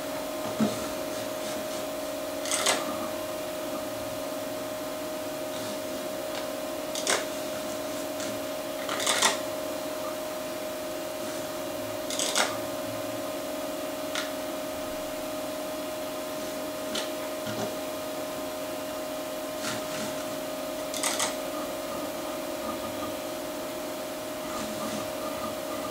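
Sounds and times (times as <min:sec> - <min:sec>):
computer hum: 0:00.0 - 0:25.9
hard drive chatter: 0:00.0 - 0:25.9.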